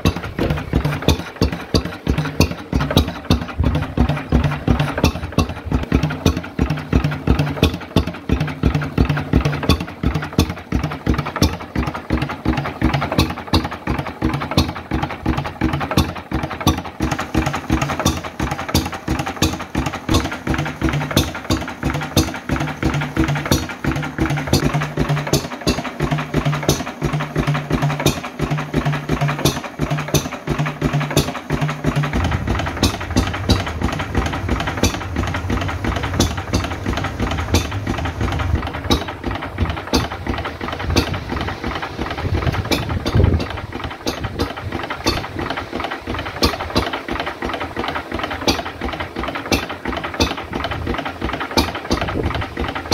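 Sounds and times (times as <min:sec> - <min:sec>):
stationary engine clicking and droning: 0:00.0 - 0:52.9.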